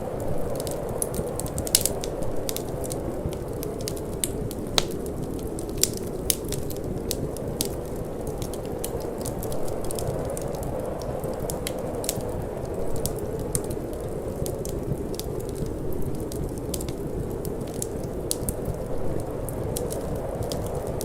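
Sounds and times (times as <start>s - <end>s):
low rush of wind: 0.0s - 21.0s
wood fire crackling and popping: 0.0s - 21.0s.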